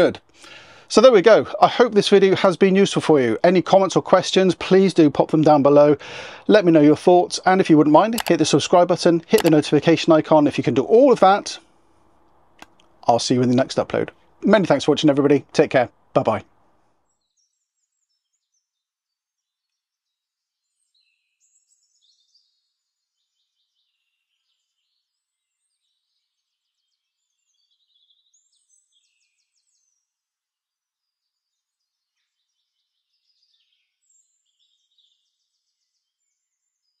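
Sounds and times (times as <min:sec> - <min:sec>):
faint birdsong: 0:00.0 - 0:37.0.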